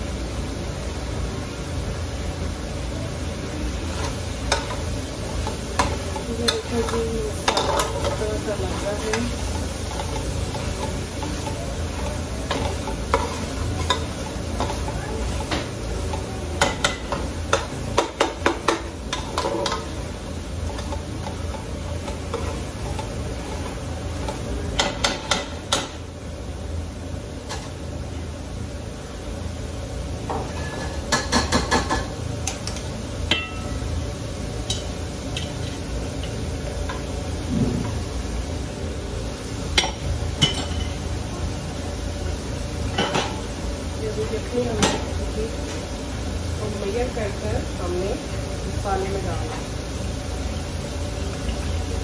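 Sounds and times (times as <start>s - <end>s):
steady sizzle: 0.0s - 52.0s.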